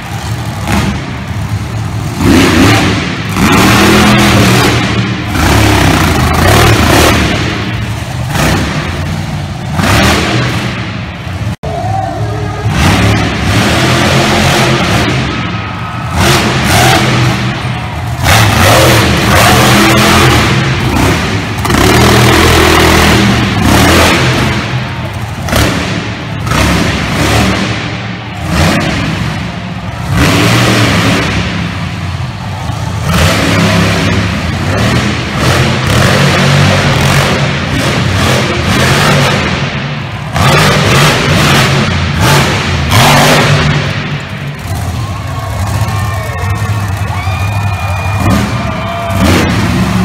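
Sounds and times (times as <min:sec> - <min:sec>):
monster truck engines revving: 0:00.0 - 0:50.0.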